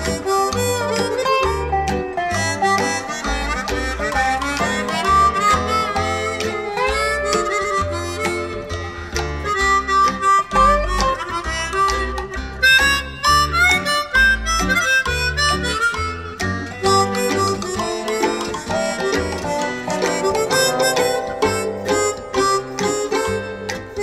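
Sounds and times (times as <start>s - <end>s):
acoustic instrumental music: 0.0s - 24.0s.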